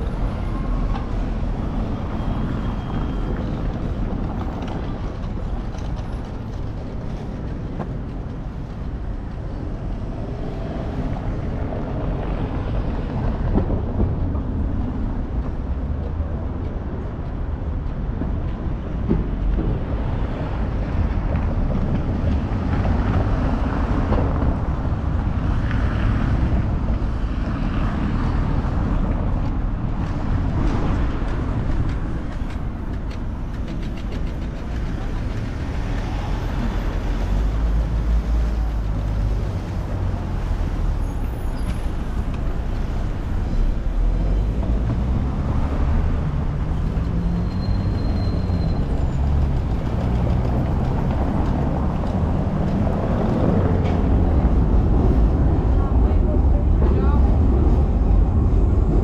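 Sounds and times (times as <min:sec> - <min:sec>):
rumble of passing vehicles: 0:00.0 - 0:59.0.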